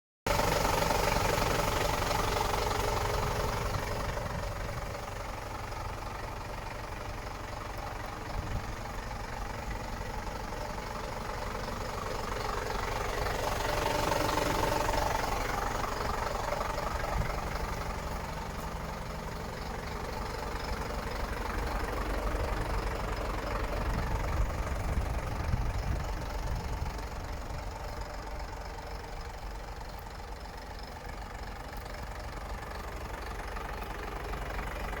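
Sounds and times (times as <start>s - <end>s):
truck diesel engine idling: 0.3s - 35.0s.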